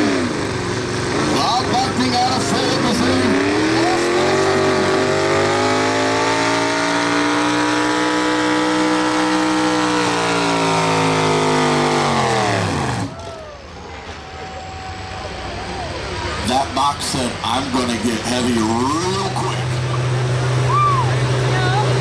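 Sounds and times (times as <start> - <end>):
truck engine at full throttle: 0.0 - 22.0.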